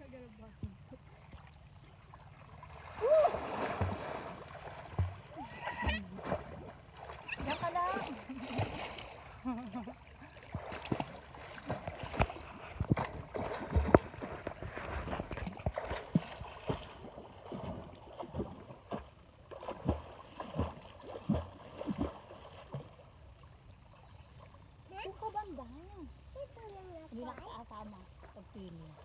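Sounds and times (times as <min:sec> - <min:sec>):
river water splashing: 0:00.0 - 0:29.0.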